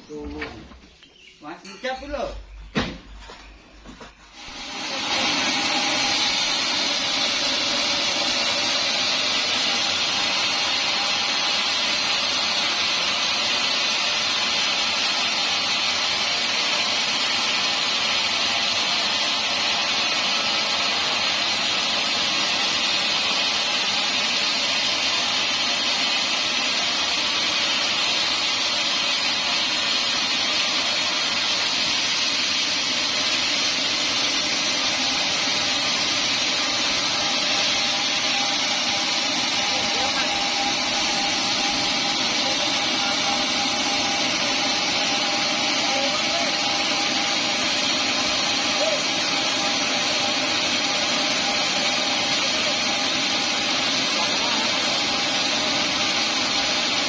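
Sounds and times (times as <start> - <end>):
band saw cutting wood: 1.8 - 57.0.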